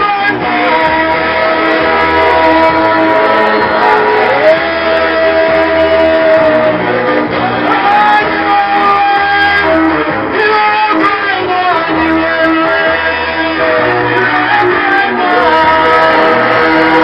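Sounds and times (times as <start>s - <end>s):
plucked guitar: 0.0s - 17.0s.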